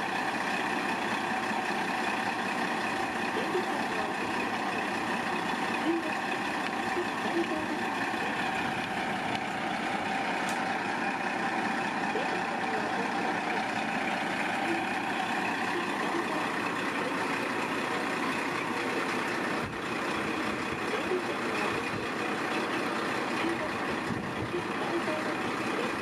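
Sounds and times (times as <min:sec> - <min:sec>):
diesel railcar engine idling: 0:00.0 - 0:26.0.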